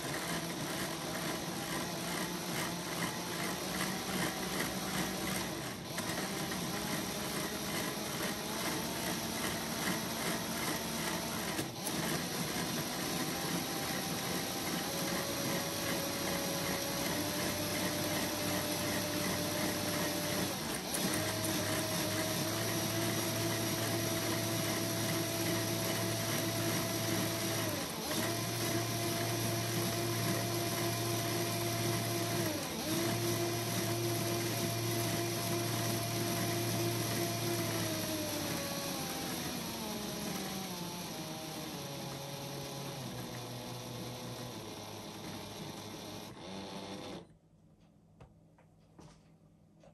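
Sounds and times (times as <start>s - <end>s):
electric motor whine: 0.0s - 47.3s.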